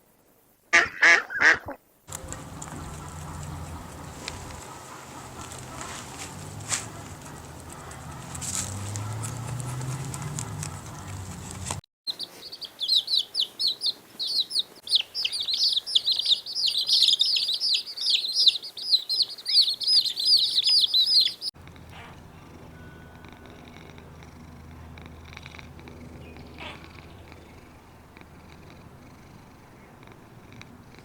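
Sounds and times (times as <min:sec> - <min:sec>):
small birds chirping: 0:02.1 - 0:31.0.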